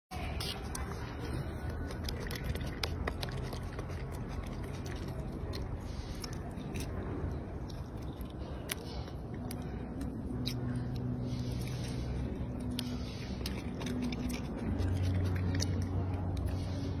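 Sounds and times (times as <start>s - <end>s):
monkey chewing fruit: 0.1s - 17.0s
steady low rumble: 0.1s - 17.0s.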